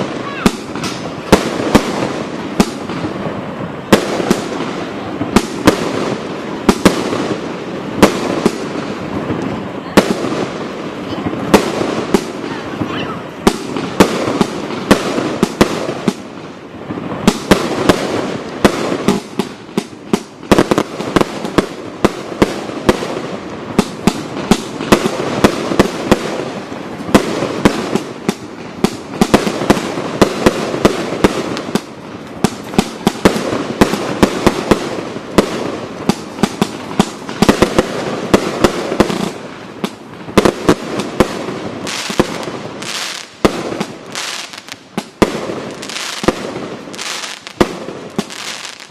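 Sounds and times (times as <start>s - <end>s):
firework bangs: 0.0s - 48.9s
firework crackle: 0.0s - 48.9s.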